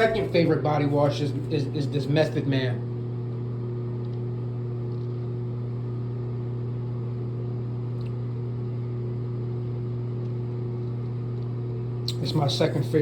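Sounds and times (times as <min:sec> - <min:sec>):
low machine hum with tones: 0:00.0 - 0:13.0.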